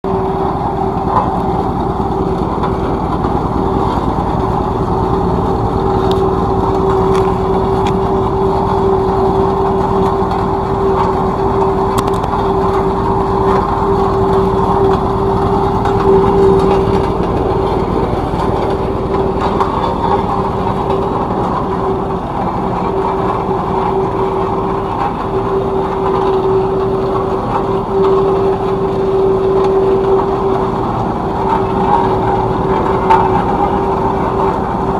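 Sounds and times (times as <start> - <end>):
constant tone: 0.0 - 34.9
road roller engine running: 0.0 - 34.9.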